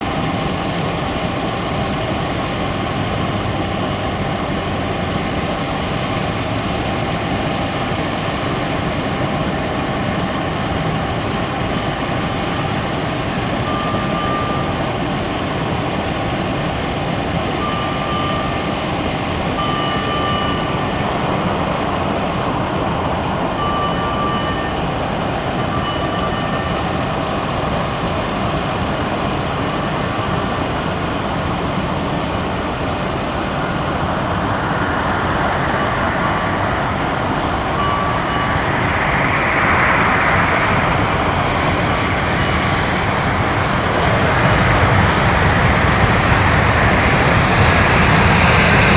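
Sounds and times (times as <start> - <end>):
airliner engine rumble: 0.0 - 48.9.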